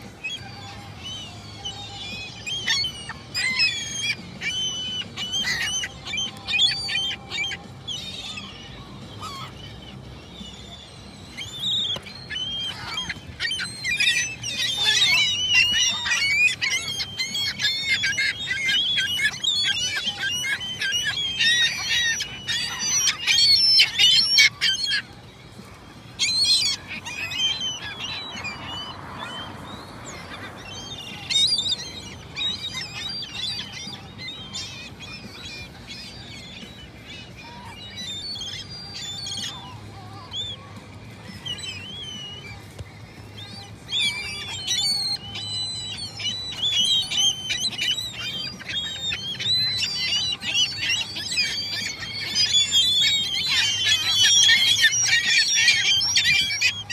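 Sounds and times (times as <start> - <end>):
gulls calling: 0.0 - 56.9.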